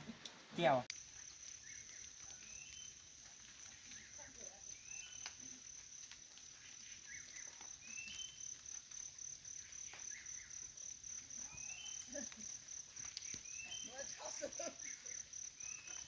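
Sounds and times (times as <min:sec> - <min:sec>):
high-pitched insect trill: 0:00.9 - 0:16.0.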